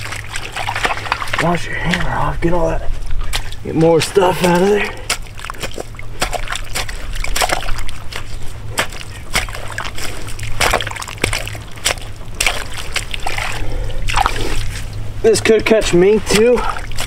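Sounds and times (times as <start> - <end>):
sloshing and splashing water: 0.0 - 17.0.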